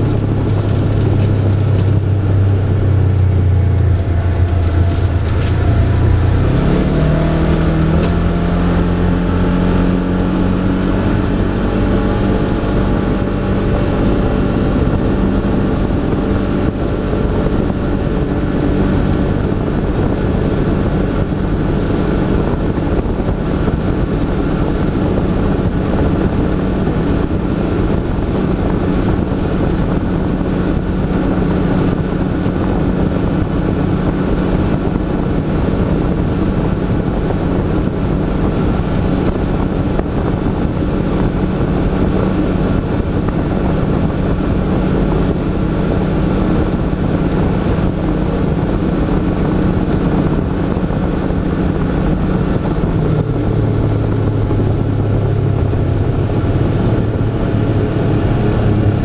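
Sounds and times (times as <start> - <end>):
vehicle engine running: 0.0 - 59.0
wind noise: 0.0 - 59.0.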